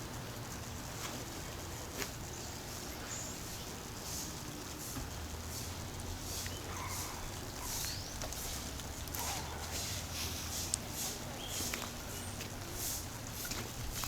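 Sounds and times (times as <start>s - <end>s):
crunching footsteps: 0.5s - 3.0s, 4.1s - 14.0s.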